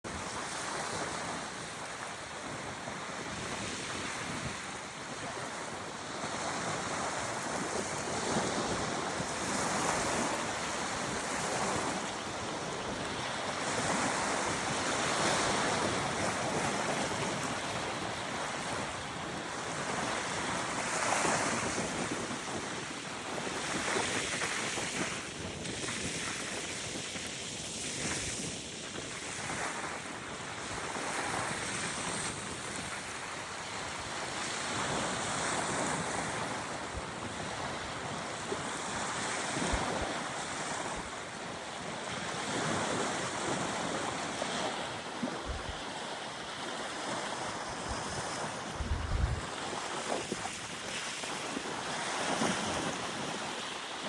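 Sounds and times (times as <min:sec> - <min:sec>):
waves breaking on sandy beach: 0:00.1 - 0:54.0
wind buffeting microphone: 0:00.1 - 0:54.0.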